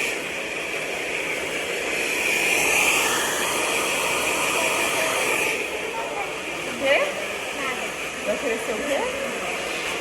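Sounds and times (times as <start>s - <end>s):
hair dryer blowing: 0.0s - 10.0s.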